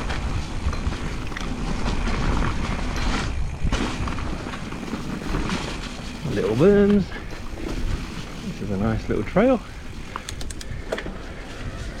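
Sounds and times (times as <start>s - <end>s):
bike rattling over bumps: 0.0s - 12.0s
tyre and wind noise: 0.0s - 12.0s.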